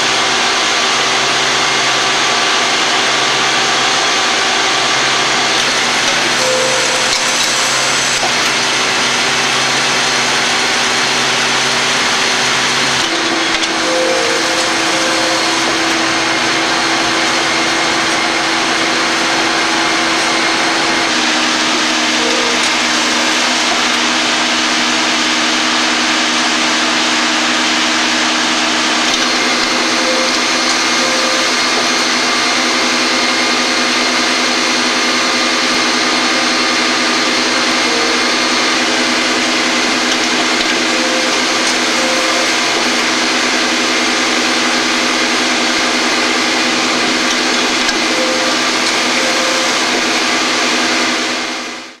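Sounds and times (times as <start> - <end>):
machine tool spindles whirring: 0.0 - 52.0.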